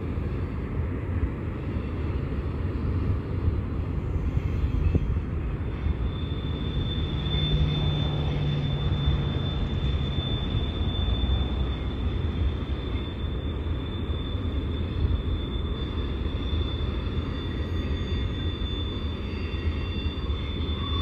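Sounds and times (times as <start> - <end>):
freight train rumbling past: 0.0 - 21.0
high-pitched wheel squeal: 2.6 - 21.0.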